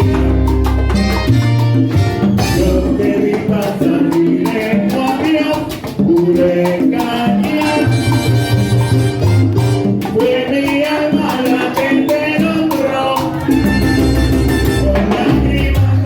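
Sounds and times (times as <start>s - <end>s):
salsa band playing: 0.0s - 16.0s.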